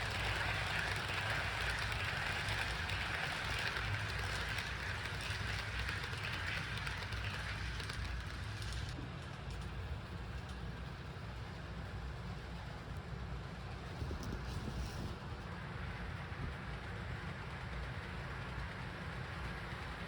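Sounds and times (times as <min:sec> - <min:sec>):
wheels hissing on rails: 0:00.0 - 0:20.0.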